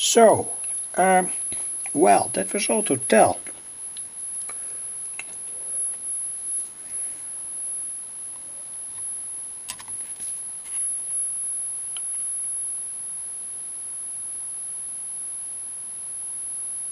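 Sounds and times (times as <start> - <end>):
high whine: 0.0 - 15.2
background hiss: 0.0 - 16.9.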